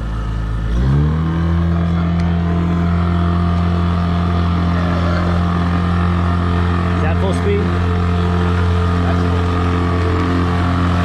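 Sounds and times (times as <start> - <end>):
outboard motor throttling up: 0.0 - 11.0.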